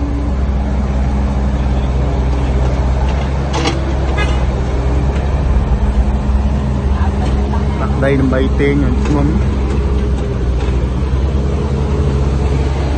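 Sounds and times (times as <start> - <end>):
heavy diesel engine running: 0.0 - 12.9.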